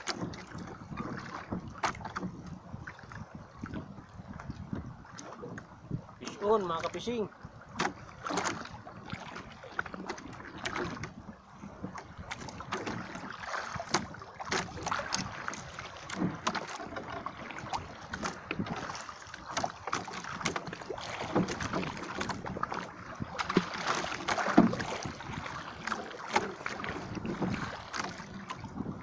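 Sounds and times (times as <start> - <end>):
water lapping against boat: 0.0 - 29.0
wooden boat knocks and clatter: 0.0 - 29.0.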